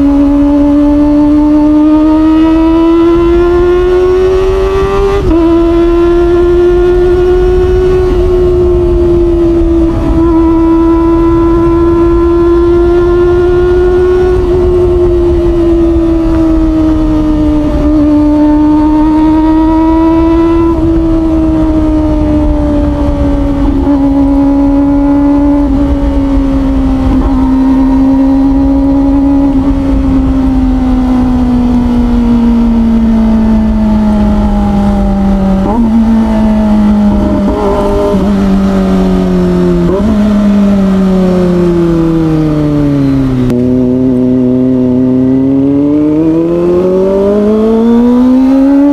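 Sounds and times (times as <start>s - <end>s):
motorcycle engine at high revs: 0.0s - 48.9s
motorcycle rev blips: 0.0s - 48.9s.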